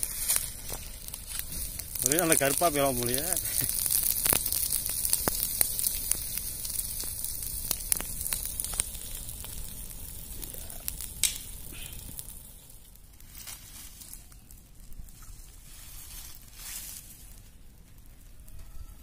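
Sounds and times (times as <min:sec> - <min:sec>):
fire hissing and crackling: 0:00.0 - 0:19.0.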